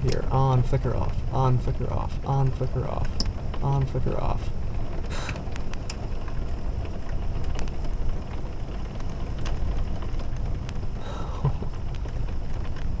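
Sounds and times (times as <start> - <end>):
heavy rain pouring: 0.0 - 13.0
low thunder rumble: 0.0 - 13.0
raindrops ticking: 0.0 - 13.0.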